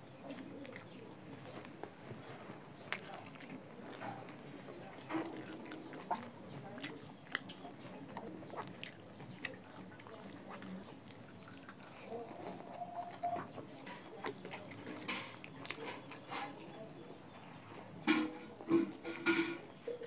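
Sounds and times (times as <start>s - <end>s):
person chewing wetly: 0.1s - 17.4s.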